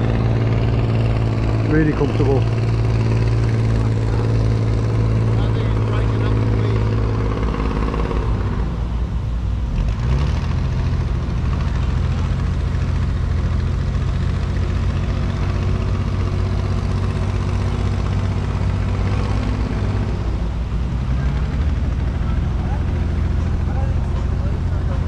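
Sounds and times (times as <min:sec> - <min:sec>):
boat engine drone: 0:00.0 - 0:25.0.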